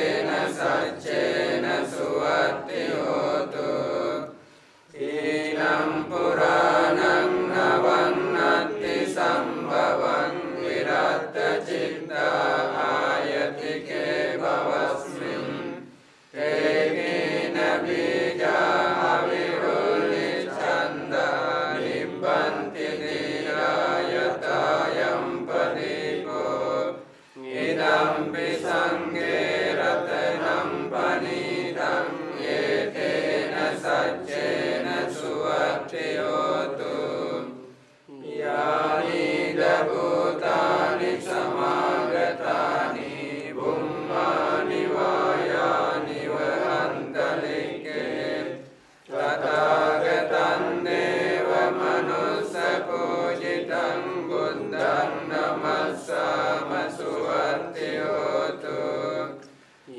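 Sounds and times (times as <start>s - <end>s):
monks chanting in unison: 0.0s - 59.9s.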